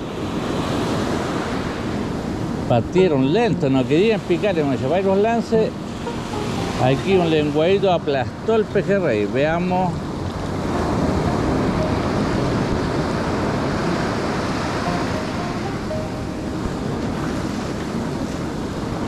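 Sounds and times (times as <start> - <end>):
ocean surf on a beach: 0.0 - 19.0
wind buffeting microphone: 0.0 - 19.0.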